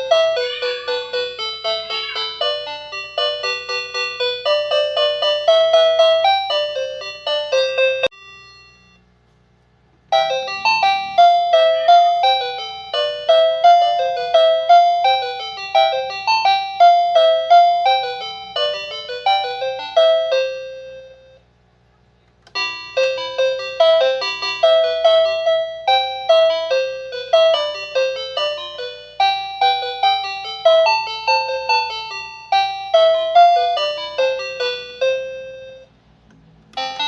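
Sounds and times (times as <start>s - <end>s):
toy telephone chime melody: 0.0s - 9.0s, 10.1s - 21.4s, 22.5s - 35.9s, 36.8s - 37.0s.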